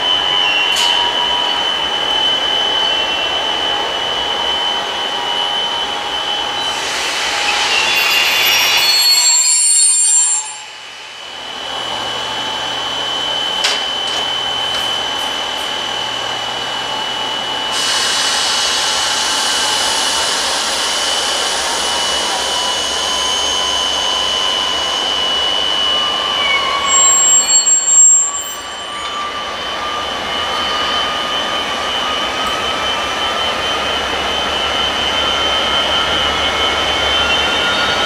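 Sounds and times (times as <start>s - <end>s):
high-pitched whine: 0.0s - 38.0s
train grinding noise: 0.0s - 38.0s.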